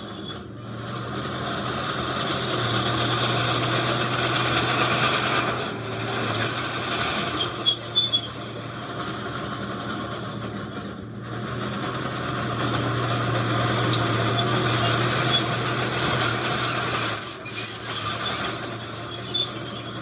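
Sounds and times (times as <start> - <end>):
heavy machinery diesel engine: 0.0 - 20.0.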